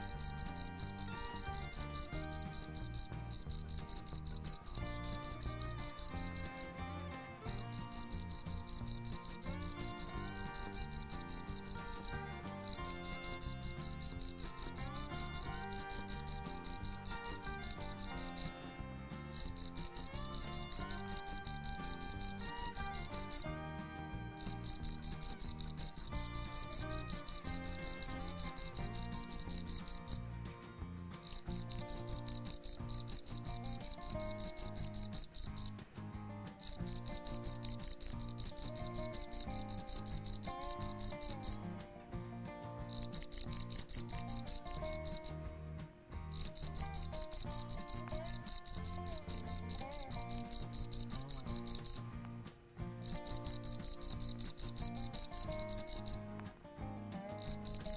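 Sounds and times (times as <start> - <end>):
cricket chirping: 0.0 - 57.9.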